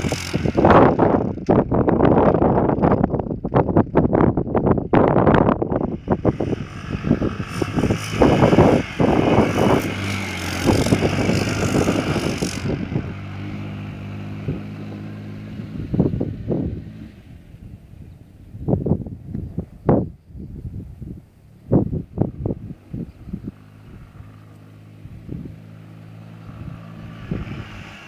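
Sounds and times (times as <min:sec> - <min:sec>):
quad bike engine running: 0:00.0 - 0:18.5, 0:21.5 - 0:28.0
wind buffeting microphone: 0:00.0 - 0:28.0.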